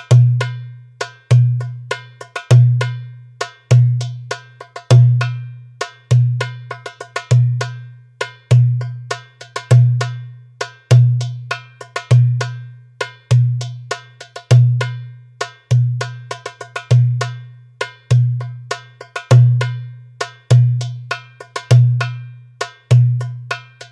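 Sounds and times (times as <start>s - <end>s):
goblet drum rhythm: 0.0s - 23.9s.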